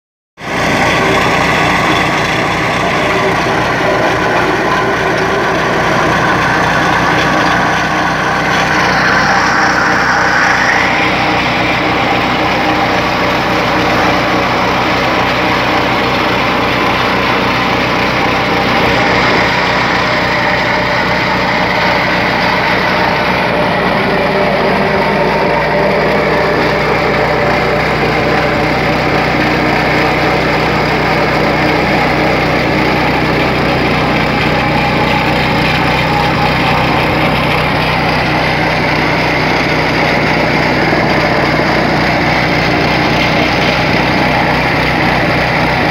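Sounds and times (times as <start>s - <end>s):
plate compactor engine running: 0.4s - 45.9s.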